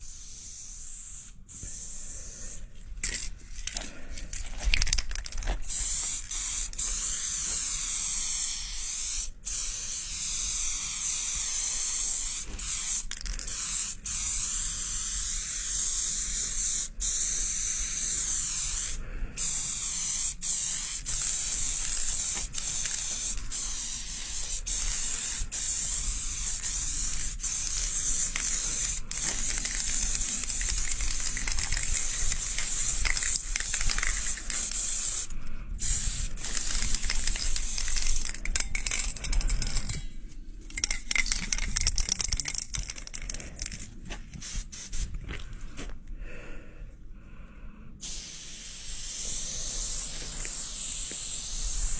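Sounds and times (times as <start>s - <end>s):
spray paint can hissing: 0.0s - 3.3s, 4.7s - 40.0s, 40.7s - 43.7s, 44.4s - 45.1s, 48.0s - 51.9s.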